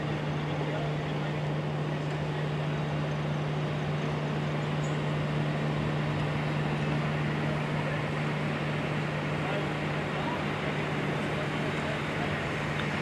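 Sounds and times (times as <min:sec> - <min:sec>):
constant rushing noise: 0:00.0 - 0:13.0.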